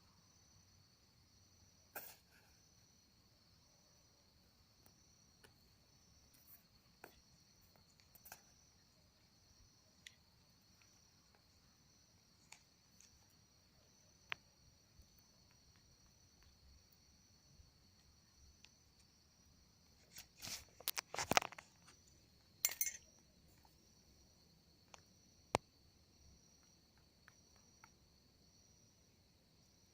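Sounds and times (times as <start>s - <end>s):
crickets chirring: 0.0s - 29.9s.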